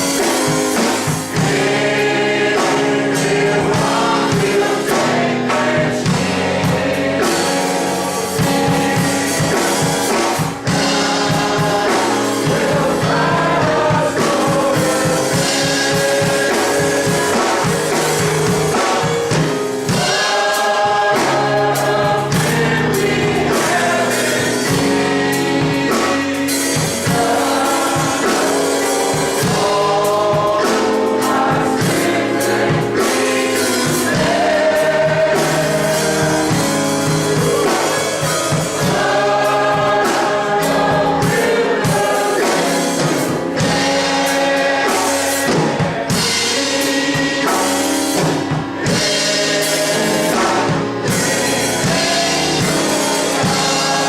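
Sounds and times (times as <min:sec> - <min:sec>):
choir singing with band: 0:00.0 - 0:54.0
drums: 0:00.0 - 0:54.0.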